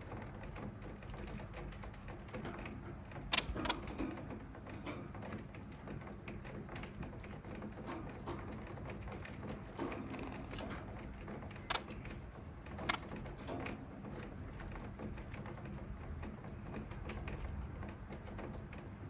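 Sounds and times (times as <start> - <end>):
birds clicking and tapping in cage: 0.1 - 18.9.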